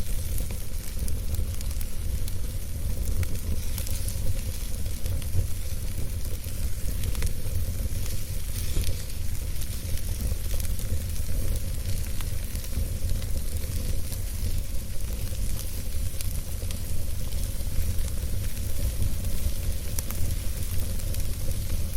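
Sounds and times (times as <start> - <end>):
campfire hissing sizzle: 0.0 - 21.9
fire crackles and pops: 0.0 - 21.9.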